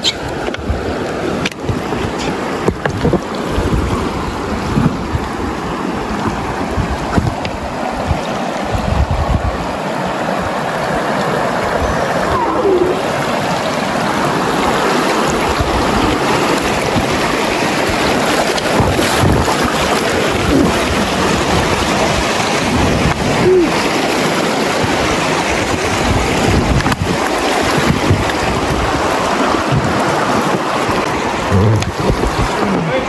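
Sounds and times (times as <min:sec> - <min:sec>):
river water rushing: 0:00.0 - 0:33.0
wind buffeting microphone: 0:00.0 - 0:33.0.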